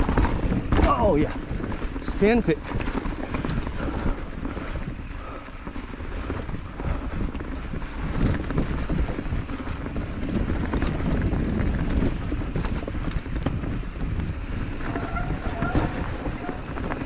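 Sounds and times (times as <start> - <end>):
bike rattling: 0.0 - 17.0
tyres rumbling on dirt: 0.0 - 17.0
wind buffeting microphone: 0.0 - 17.0.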